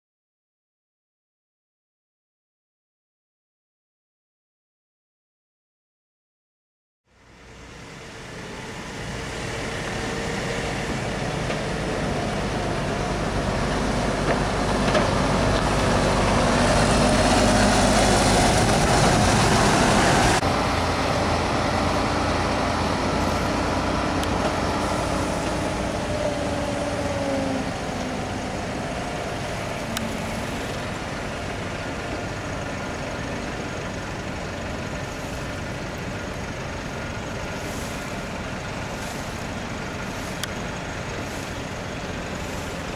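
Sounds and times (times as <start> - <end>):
truck diesel engine: 7.1 - 42.9.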